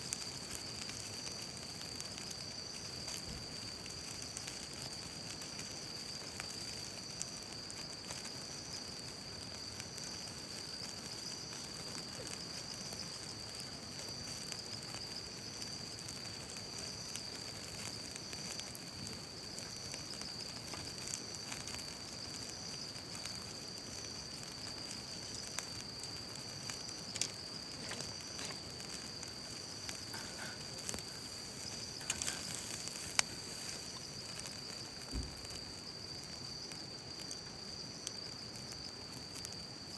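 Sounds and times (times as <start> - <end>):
fire crackles and pops: 0.0 - 39.9
meat sizzling on a grill: 0.0 - 39.9.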